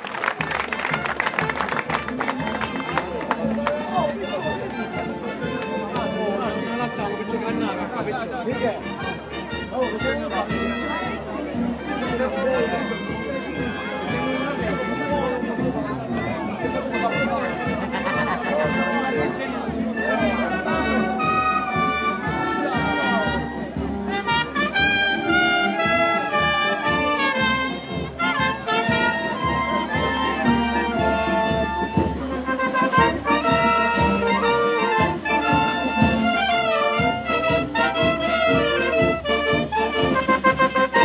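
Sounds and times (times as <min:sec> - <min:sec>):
marching wind band playing: 0:00.0 - 0:41.0.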